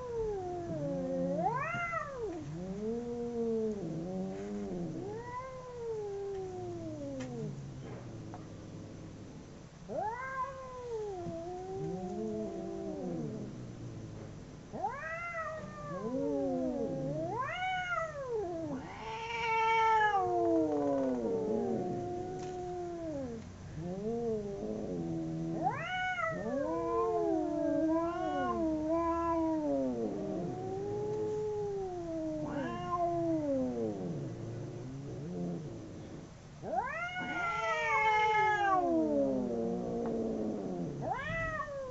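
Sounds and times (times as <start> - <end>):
cats yowling: 0.0 - 7.6, 9.9 - 13.5, 14.7 - 35.7, 36.6 - 41.9.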